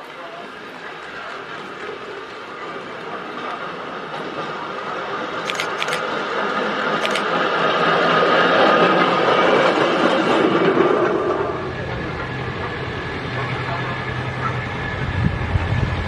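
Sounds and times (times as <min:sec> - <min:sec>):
rail trolley wheels on rails: 0:00.0 - 0:16.0.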